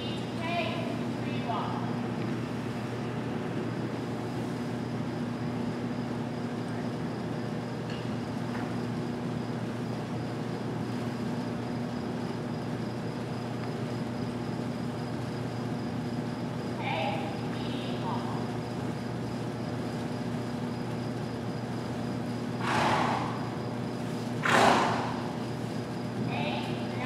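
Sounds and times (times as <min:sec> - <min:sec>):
electrical hum with high whine: 0:00.0 - 0:27.0.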